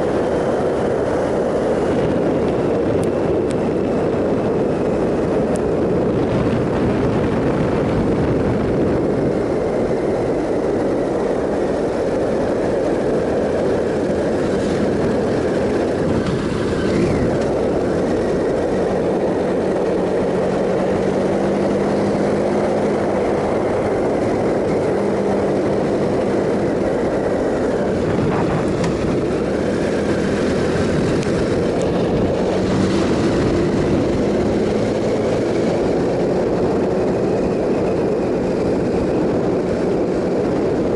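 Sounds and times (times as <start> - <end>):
motorcycle engine cruising: 0.0 - 40.9
wind rush on microphone: 0.0 - 40.9.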